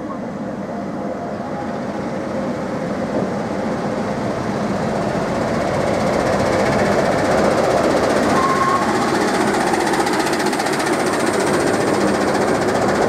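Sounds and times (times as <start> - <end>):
electric locomotive running: 0.0 - 13.0
wheels rumbling on rails: 0.0 - 13.0.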